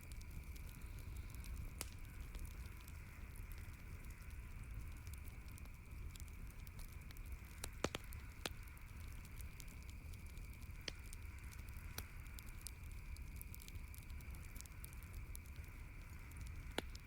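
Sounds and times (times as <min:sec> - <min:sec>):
campfire crackling: 0:00.0 - 0:17.0
faint low rumble: 0:00.0 - 0:17.0.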